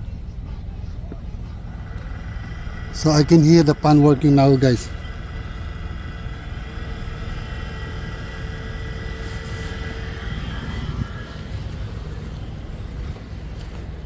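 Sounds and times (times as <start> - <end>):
blower fan motor whirring: 0.0 - 14.0
motor hissing: 1.3 - 14.0.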